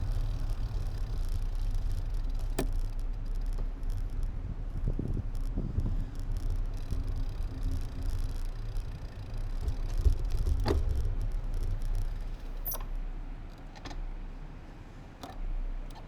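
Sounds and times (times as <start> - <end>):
wind and road rumble: 0.0 - 16.0.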